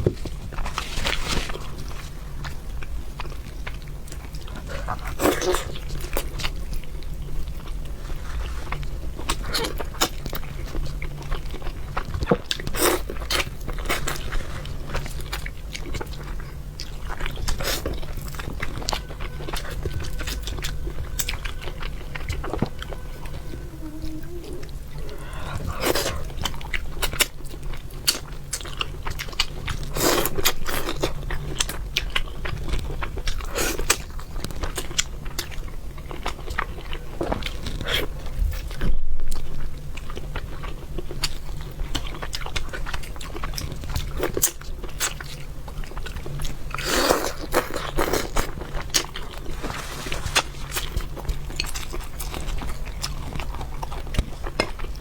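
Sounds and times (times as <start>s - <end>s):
low steady hum: 0.0s - 46.8s
chewing and mouth sounds: 0.0s - 55.0s.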